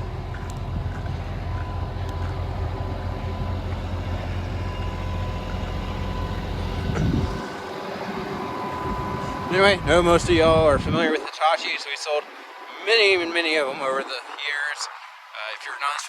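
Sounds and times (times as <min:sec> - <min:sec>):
excavator diesel engine idling: 0:00.0 - 0:13.8.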